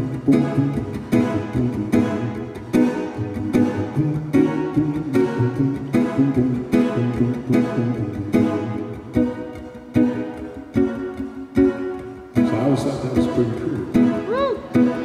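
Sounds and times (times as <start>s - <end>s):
acoustic guitar reggae bass line: 0.0s - 15.0s
guitar chord strikes: 0.0s - 15.0s.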